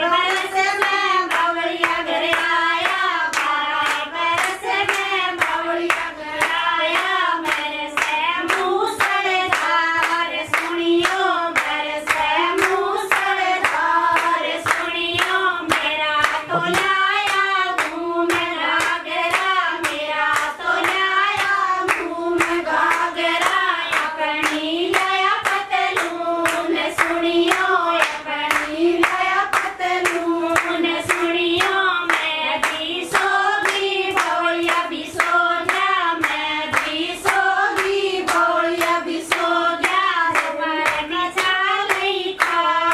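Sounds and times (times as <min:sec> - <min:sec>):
hand claps: 0:00.0 - 0:42.9
women singing folk song: 0:00.0 - 0:42.9.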